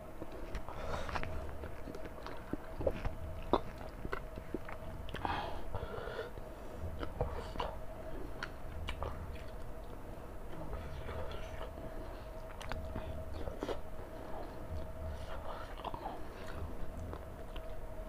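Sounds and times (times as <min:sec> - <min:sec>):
person chewing food: 0:00.0 - 0:17.8
faint steady hum: 0:00.0 - 0:18.0.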